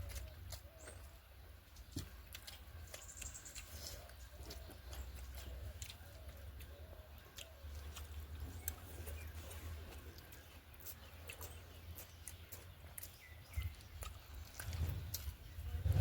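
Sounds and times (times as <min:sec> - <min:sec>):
wet mouth chewing clicks: 0:00.0 - 0:16.0.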